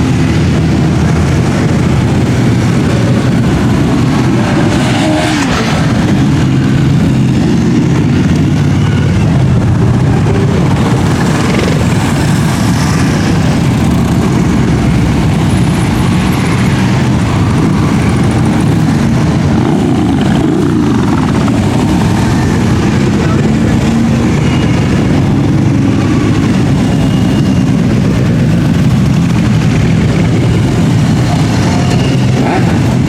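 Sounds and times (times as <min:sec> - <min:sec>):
motorcycle engines passing: 0:00.0 - 0:33.0.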